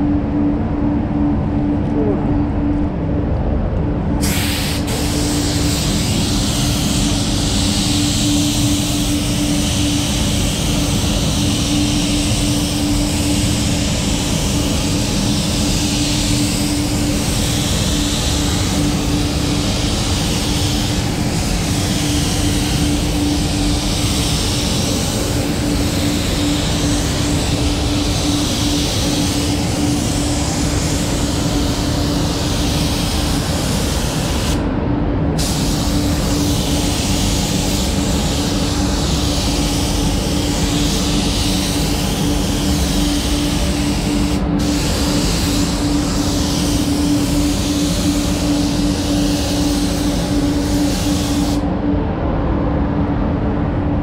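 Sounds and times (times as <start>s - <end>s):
ventilation rumble and hum: 0.0s - 54.0s
spray gun hissing: 4.2s - 34.7s, 35.4s - 51.7s.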